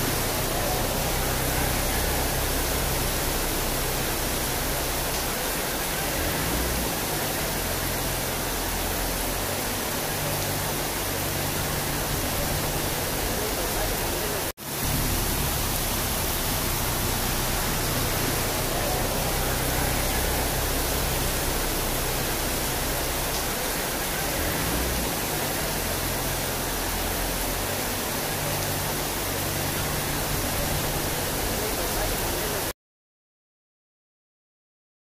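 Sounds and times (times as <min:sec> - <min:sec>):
floodwater rushing down street: 0:00.0 - 0:32.7.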